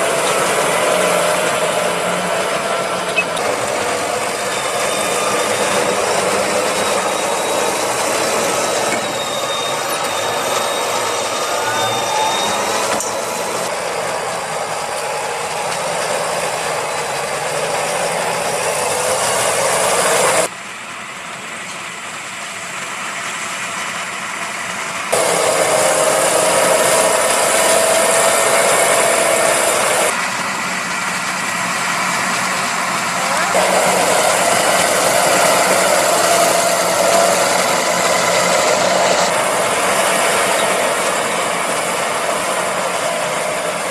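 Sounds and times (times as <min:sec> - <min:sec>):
tractor engine under load: 0:00.0 - 0:43.9.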